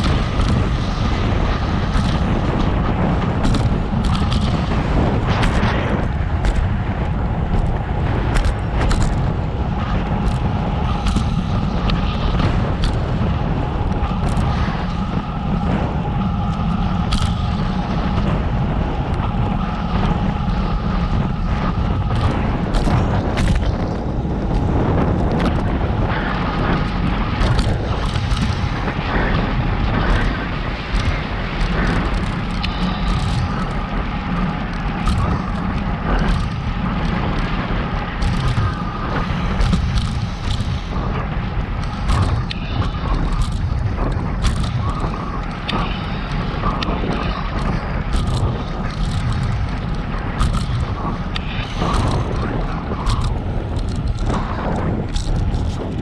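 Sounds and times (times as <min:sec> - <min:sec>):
bicycle clicks and rattles: 0:00.0 - 0:56.0
faint steady whine: 0:00.0 - 0:56.0
wind buffeting microphone: 0:00.0 - 0:56.0.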